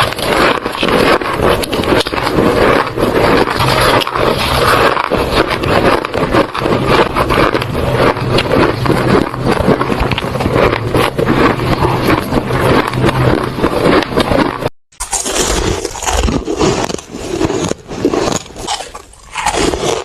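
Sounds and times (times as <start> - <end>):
ice crunching in mouth: 0.0 - 20.0.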